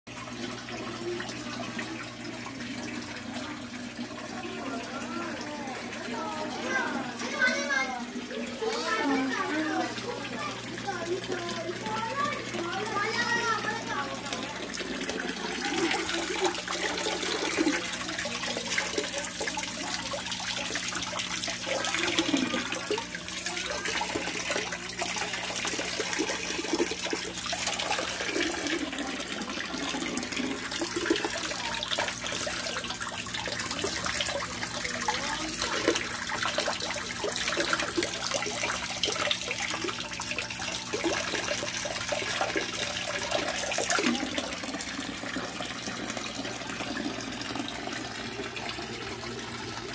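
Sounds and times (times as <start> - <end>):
water pouring into pond: 7.4 - 49.9.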